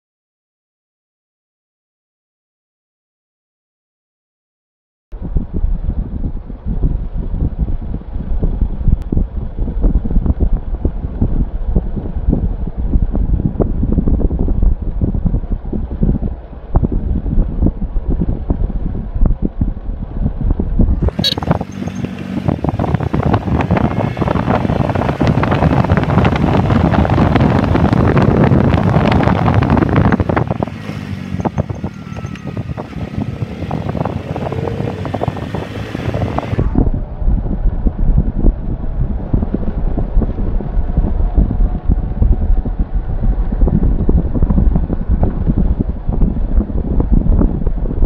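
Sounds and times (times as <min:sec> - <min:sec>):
wind buffeting microphone: 0:05.1 - 0:48.0
motorcycle running: 0:05.2 - 0:48.0.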